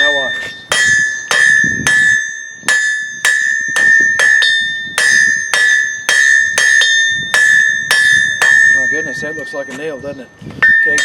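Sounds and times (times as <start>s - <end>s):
anvil ringing: 0.0s - 11.0s
hammer striking steel on anvil: 0.0s - 11.0s.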